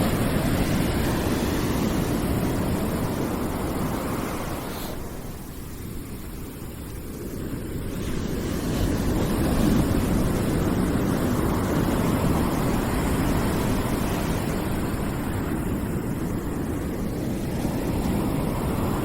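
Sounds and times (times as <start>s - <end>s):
rushing white noise: 0.0s - 19.0s.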